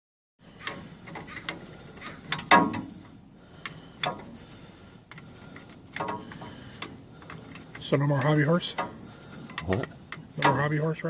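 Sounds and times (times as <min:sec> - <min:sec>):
hand tools clicking and clanking on metal: 0:00.5 - 0:11.0.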